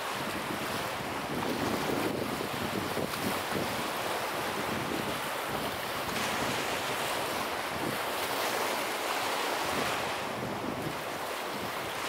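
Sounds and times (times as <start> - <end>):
small waves washing on sand: 0.0 - 12.0
wind buffeting microphone: 0.0 - 12.0.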